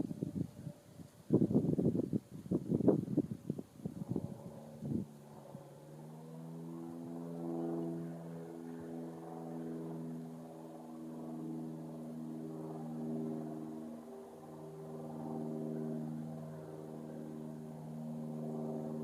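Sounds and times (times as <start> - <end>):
steady engine drone: 3.1 - 19.0.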